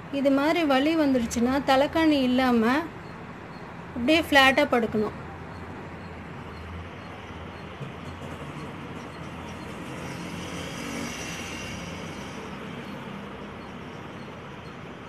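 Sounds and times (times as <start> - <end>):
steady low hum: 0.0 - 15.0
vehicle passing: 0.0 - 15.0.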